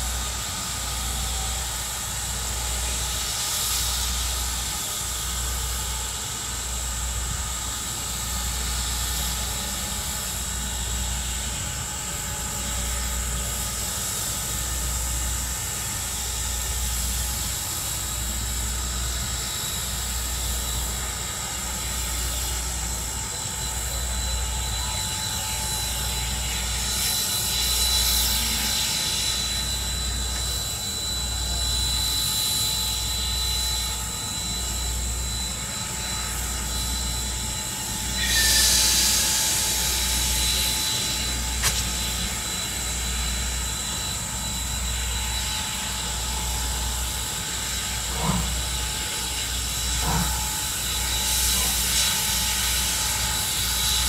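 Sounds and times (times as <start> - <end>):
loud steam hiss: 0.0 - 54.0
steam locomotive exhaust beats: 0.0 - 54.0.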